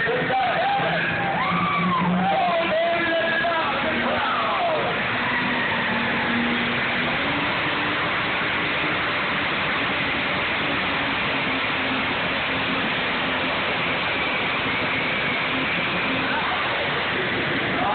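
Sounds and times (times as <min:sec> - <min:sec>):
diesel truck engine roaring: 0:00.0 - 0:17.9.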